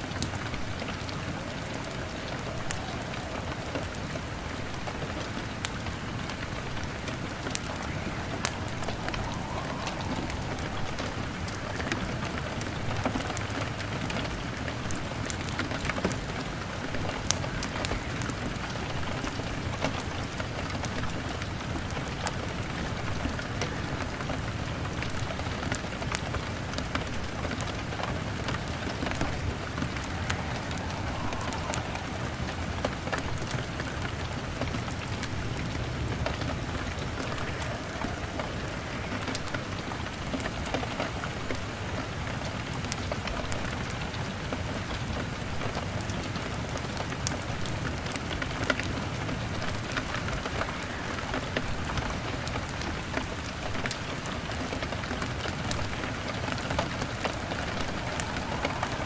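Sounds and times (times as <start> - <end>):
fire crackling: 0.0 - 44.0, 47.3 - 59.0
rain against a window: 0.0 - 59.0.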